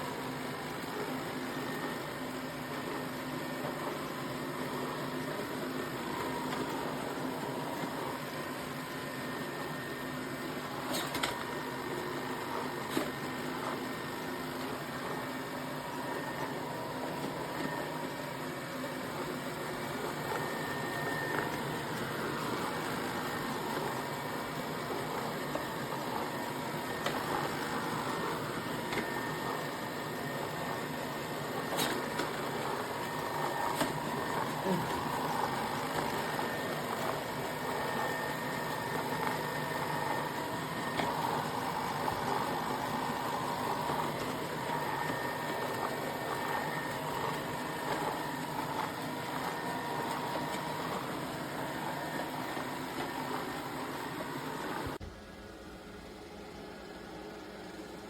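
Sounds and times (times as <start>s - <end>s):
robot vacuum motor hum: 0.0s - 55.1s.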